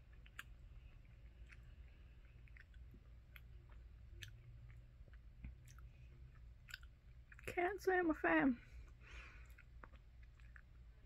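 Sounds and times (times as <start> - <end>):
chewing mouth clicks: 0.0 - 7.5, 8.9 - 11.0
low steady hum: 0.0 - 11.0.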